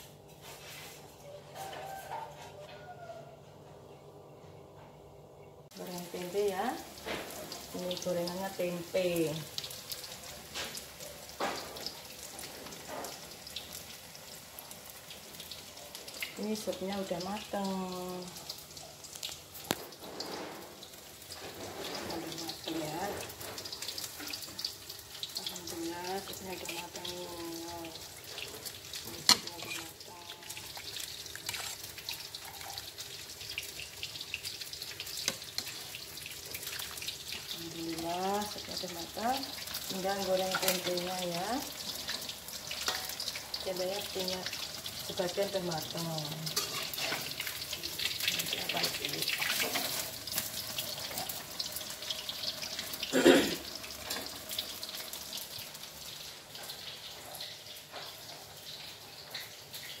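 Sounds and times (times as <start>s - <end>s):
food frying in hot oil: 0.0s - 3.1s, 5.7s - 60.0s.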